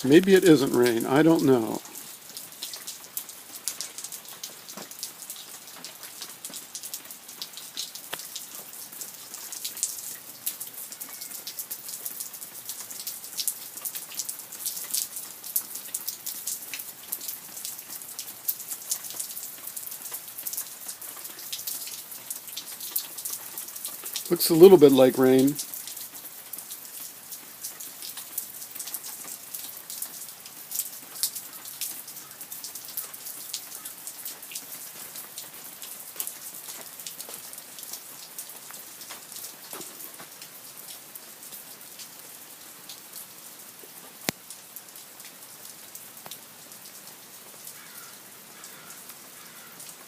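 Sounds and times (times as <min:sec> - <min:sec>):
light rain: 0:00.0 - 0:50.0.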